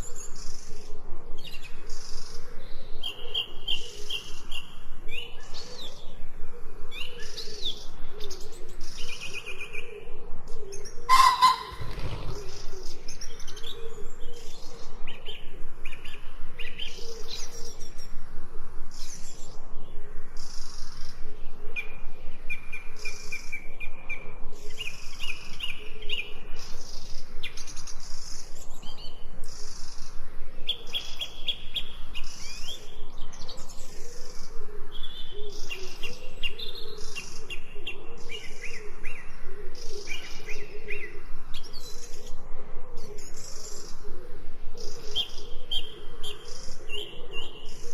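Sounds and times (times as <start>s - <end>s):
birds singing and chirping: 0.0s - 18.2s, 18.9s - 42.4s, 43.0s - 47.9s.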